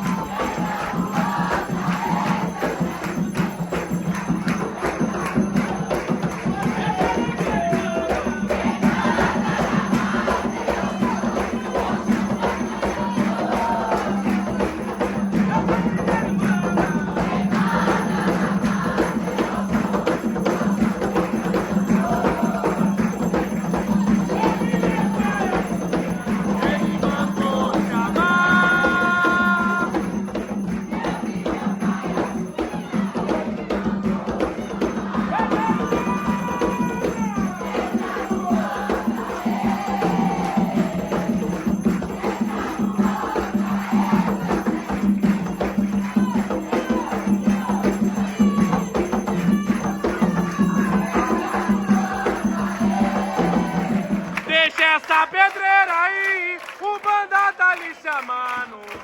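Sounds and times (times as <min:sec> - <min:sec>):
hand percussion: 0:00.0 - 0:59.0
voices singing a chant: 0:00.0 - 0:59.0.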